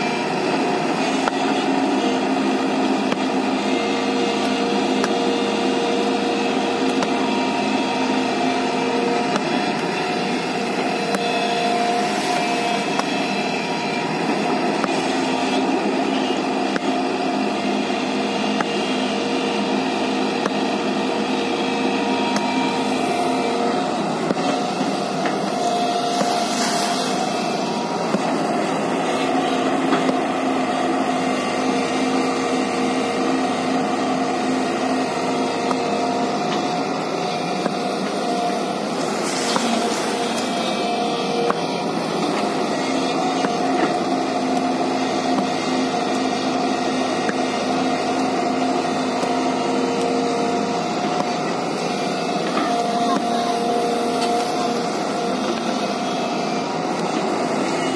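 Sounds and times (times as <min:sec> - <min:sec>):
excavator engine and hydraulics: 0:00.0 - 0:57.9.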